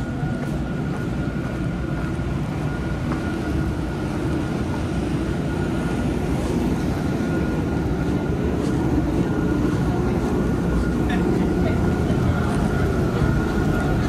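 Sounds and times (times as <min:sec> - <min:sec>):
streetcar rumble: 0:00.0 - 0:14.0.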